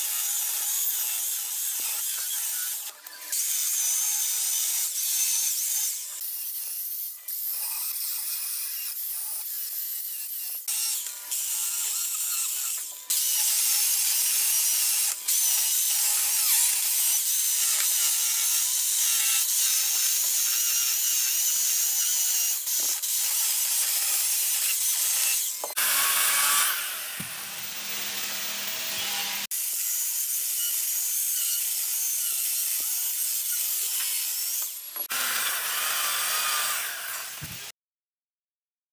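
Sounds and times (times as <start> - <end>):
electric chainsaw cutting wood: 0.0 - 37.7.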